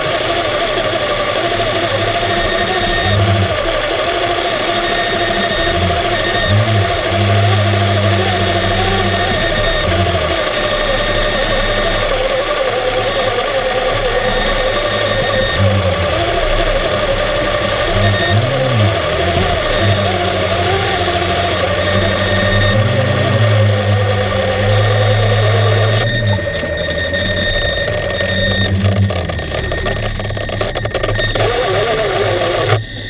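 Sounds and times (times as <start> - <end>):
underwater electric motors humming: 0.0 - 33.0.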